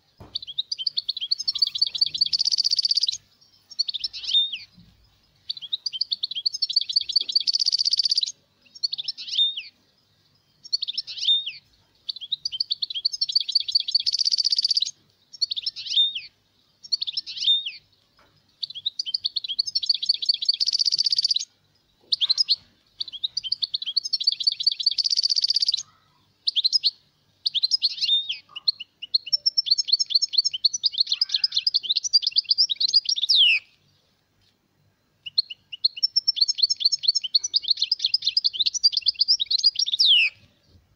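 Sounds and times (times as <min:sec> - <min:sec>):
goldfinch singing trills: 0:00.0 - 0:34.0, 0:35.2 - 0:40.8.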